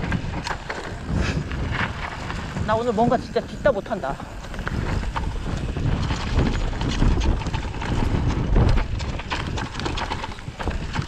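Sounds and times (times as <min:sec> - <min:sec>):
bike knocking and rattling: 0:00.0 - 0:11.0
bike tyres on dirt trail: 0:00.0 - 0:11.0
wind rumbling on microphone: 0:00.0 - 0:11.0.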